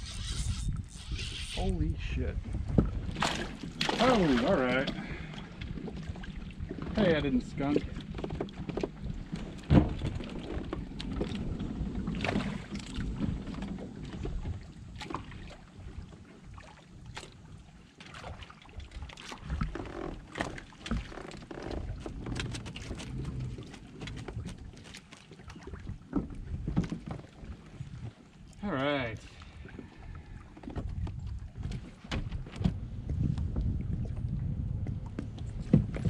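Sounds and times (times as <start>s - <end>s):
low rumble of movement: 0.0s - 17.8s, 19.4s - 36.0s.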